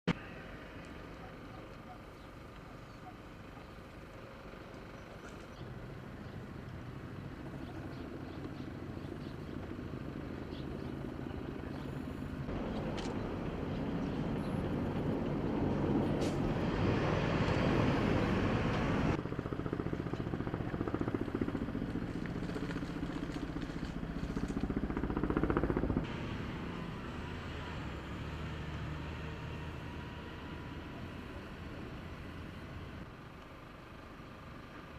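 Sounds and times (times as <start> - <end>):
aircraft engine droning: 3.3 - 33.1.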